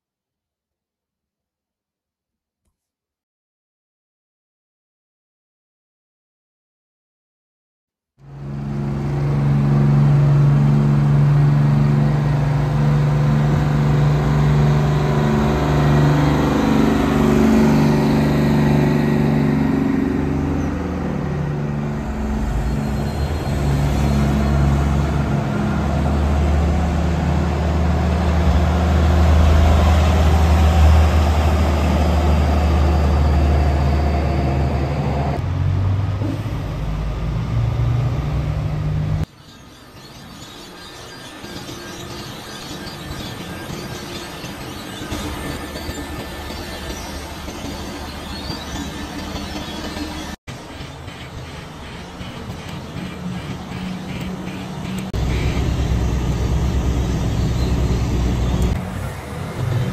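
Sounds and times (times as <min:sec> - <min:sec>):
diesel truck engines droning: 0:08.2 - 0:59.9.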